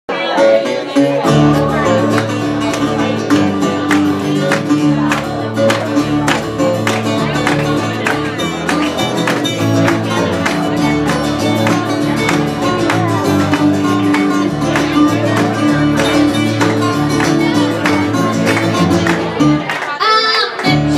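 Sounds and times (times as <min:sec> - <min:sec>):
resonator guitar: 0:00.1 - 0:19.8
strummed acoustic guitars: 0:00.1 - 0:20.9
bass notes: 0:01.2 - 0:19.7.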